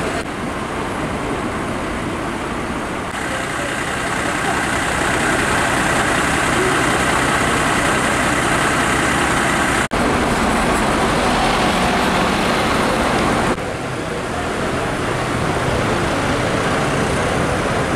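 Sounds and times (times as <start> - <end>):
fire engine diesel idling: 0.0 - 17.9
street traffic: 0.0 - 17.9.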